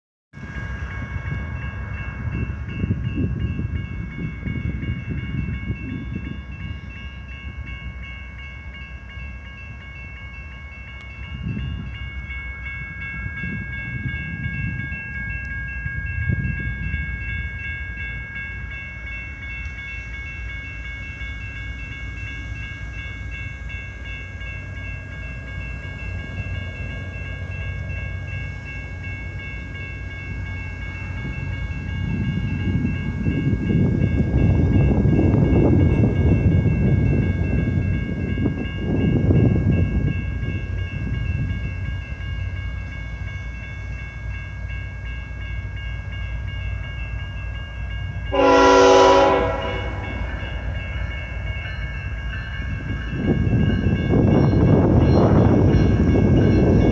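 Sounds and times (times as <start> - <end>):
railroad crossing bell ringing: 0.4 - 56.9.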